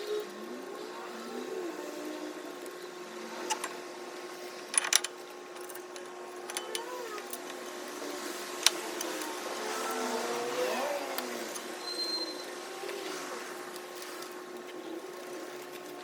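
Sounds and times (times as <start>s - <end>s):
steady hum with held tone: 0.0s - 16.0s.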